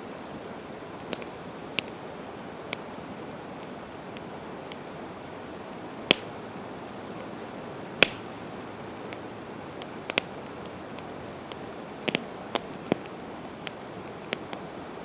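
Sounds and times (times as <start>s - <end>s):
campfire pops and crackles: 0.0s - 15.0s
fire hissing: 0.0s - 15.0s.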